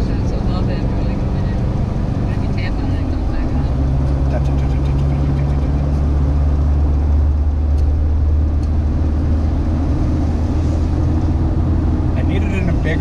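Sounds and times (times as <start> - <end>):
car engine hum: 0.0 - 13.0
tyre and road noise: 0.0 - 13.0.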